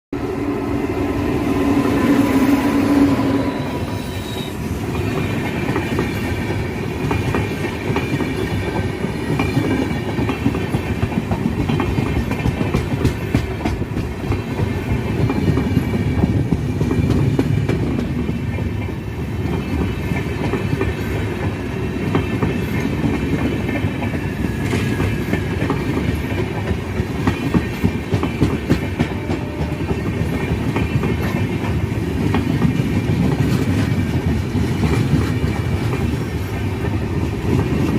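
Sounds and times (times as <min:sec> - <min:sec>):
train rumbling past: 0:00.2 - 0:37.9.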